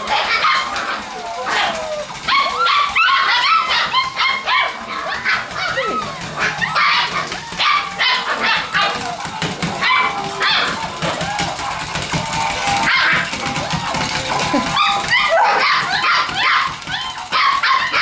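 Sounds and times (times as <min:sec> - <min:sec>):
puppies yipping and barking: 0:00.0 - 0:18.0.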